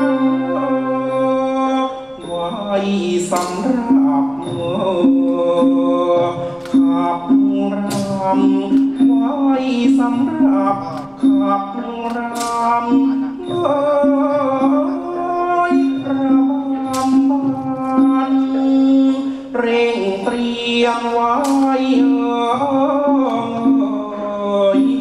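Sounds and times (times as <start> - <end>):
sharp percussion strikes: 0.0 - 25.0
traditional ensemble music: 0.0 - 25.0.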